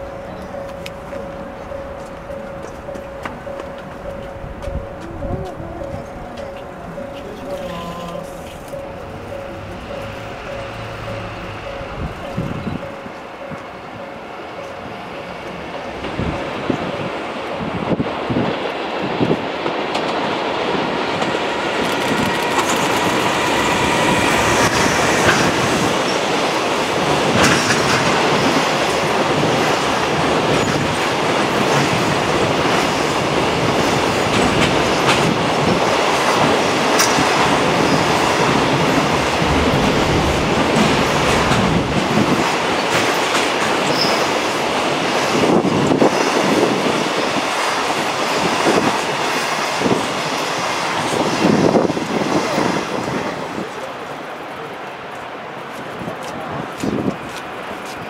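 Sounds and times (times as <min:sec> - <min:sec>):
freight train passing: 0:00.0 - 0:58.0.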